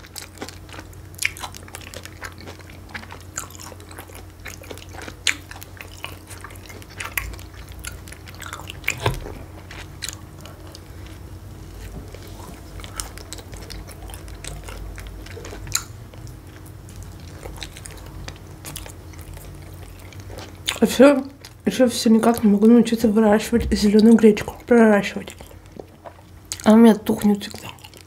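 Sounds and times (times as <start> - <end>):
person chewing food: 0.0 - 22.7, 23.9 - 26.7, 27.5 - 28.0.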